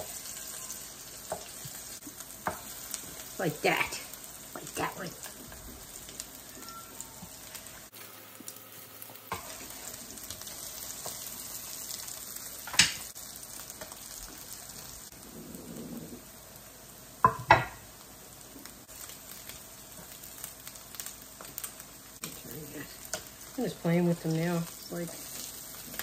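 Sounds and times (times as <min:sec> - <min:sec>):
food sizzling in a skillet: 0:00.0 - 0:26.0.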